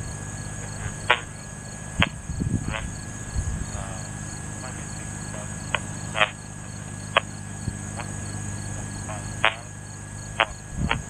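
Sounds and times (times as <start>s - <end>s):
crickets trilling: 0.0s - 11.0s
distant airplane engine drone: 0.0s - 11.0s.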